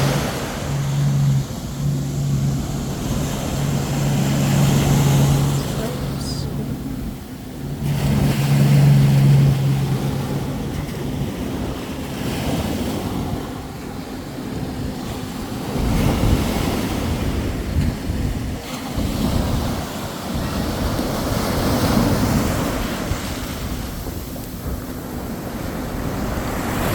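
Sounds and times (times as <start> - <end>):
low engine hum: 0.0 - 26.9
ocean waves washing ashore: 0.0 - 26.9
wind buffeting microphone: 0.0 - 26.9.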